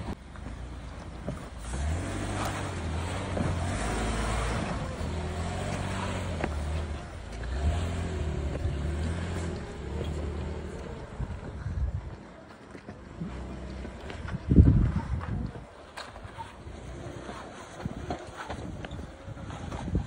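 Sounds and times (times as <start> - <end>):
car engine under load: 0.0 - 20.0.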